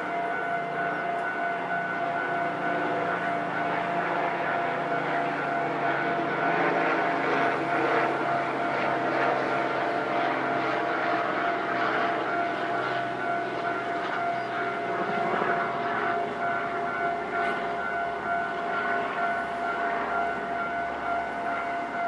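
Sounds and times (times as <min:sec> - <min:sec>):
level crossing alarm: 0:00.0 - 0:22.0.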